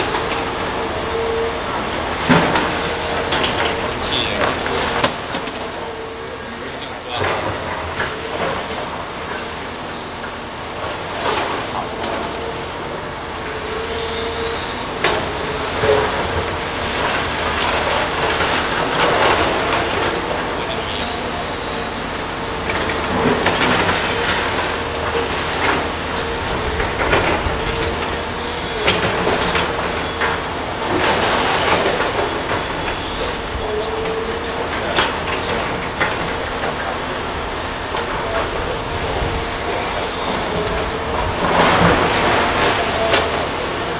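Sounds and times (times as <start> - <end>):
fire truck engine and hydraulics: 0.0 - 43.9.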